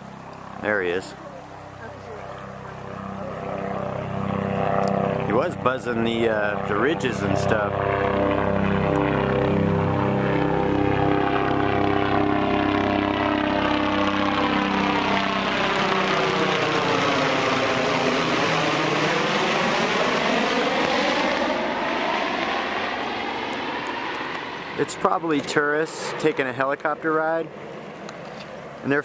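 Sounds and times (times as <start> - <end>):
helicopter flying low overhead: 0.0 - 29.0.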